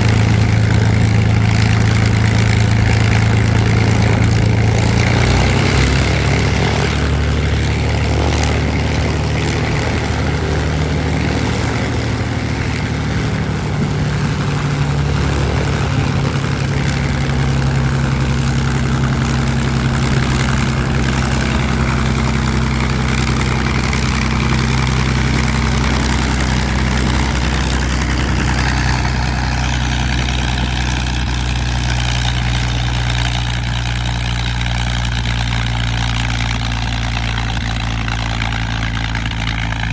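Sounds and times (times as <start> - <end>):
aircraft engine idling: 0.0 - 39.9.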